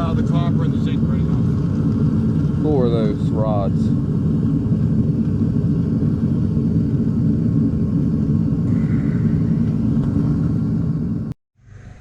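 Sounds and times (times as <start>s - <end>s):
gas torch flame roaring: 0.0s - 12.0s.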